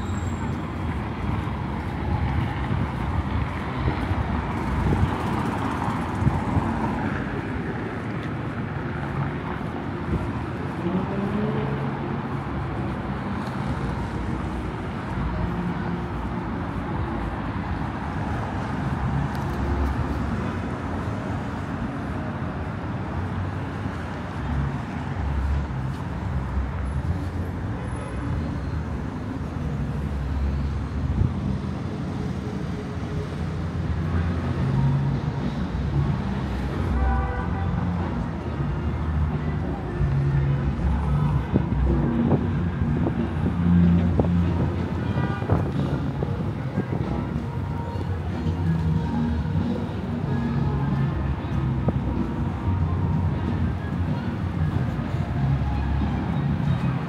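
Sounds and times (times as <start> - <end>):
car engines passing: 0.0 - 57.0
road noise: 0.0 - 57.0.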